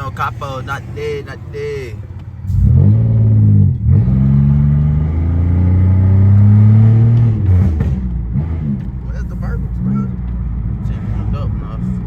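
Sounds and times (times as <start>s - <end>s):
car exhaust accelerating: 0.0s - 12.0s.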